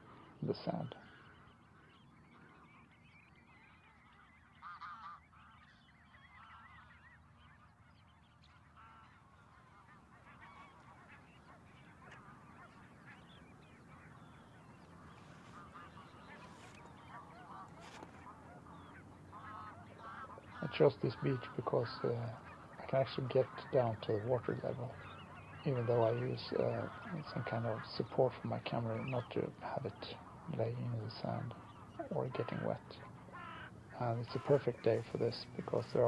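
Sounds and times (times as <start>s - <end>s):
wild bird calls: 0.0s - 36.0s.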